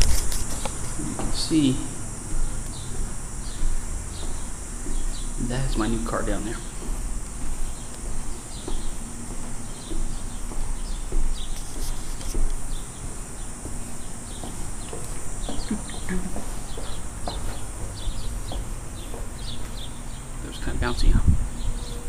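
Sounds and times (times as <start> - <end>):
birds chirping: 0.0 - 22.0
insects droning: 0.0 - 22.0.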